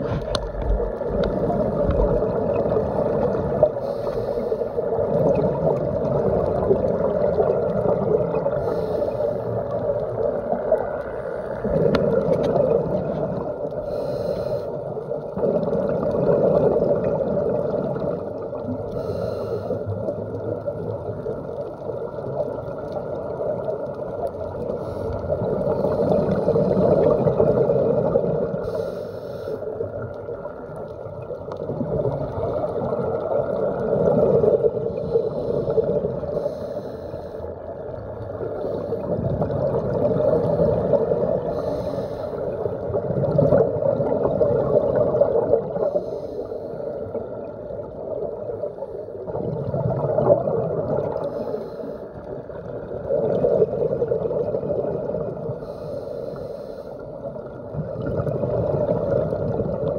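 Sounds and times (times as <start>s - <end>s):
muffled regulator breathing underwater: 0.0s - 10.2s, 11.1s - 20.3s, 24.5s - 30.0s, 32.0s - 47.5s, 48.6s - 59.8s
exhaled bubbles underwater: 0.0s - 59.9s.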